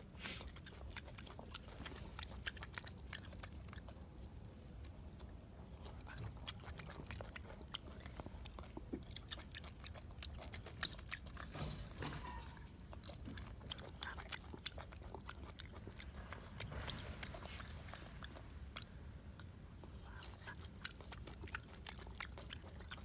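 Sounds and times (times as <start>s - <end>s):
monkey chewing food: 0.0s - 11.6s, 12.2s - 23.0s.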